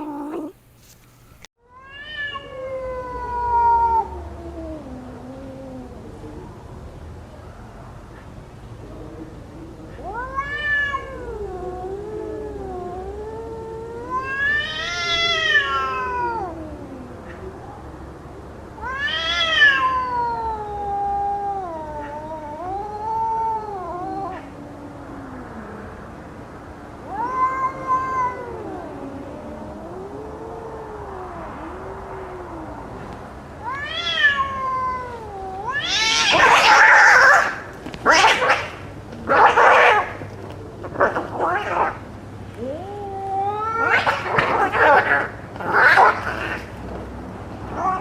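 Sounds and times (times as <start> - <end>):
cats yowling in a fight: 0.0 - 0.6, 1.7 - 6.6, 9.8 - 17.8, 18.7 - 26.0, 26.9 - 48.0.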